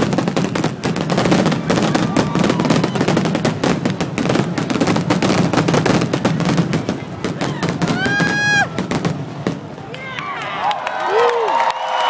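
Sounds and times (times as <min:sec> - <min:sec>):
fireworks bangs and crackles: 0:00.0 - 0:10.4.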